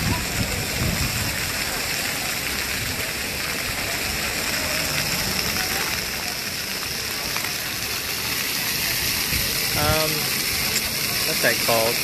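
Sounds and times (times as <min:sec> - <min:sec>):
crowd chatter: 0:00.0 - 0:12.0
fountain water hissing: 0:00.0 - 0:12.0.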